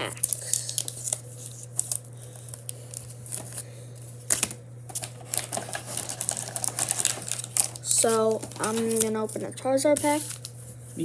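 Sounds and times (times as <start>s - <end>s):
foil packs crinkling: 0.0s - 10.6s
steady low hum: 0.0s - 11.0s.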